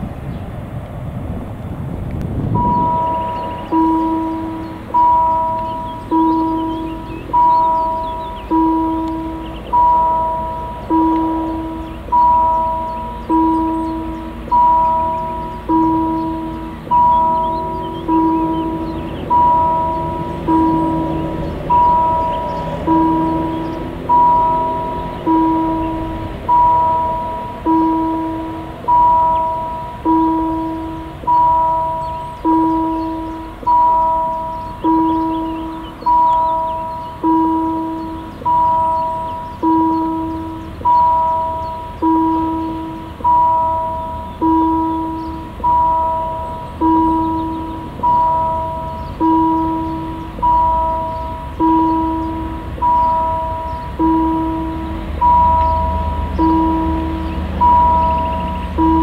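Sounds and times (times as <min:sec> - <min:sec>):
low rumble: 0:00.0 - 0:59.0
level crossing warning bell: 0:02.2 - 0:59.0.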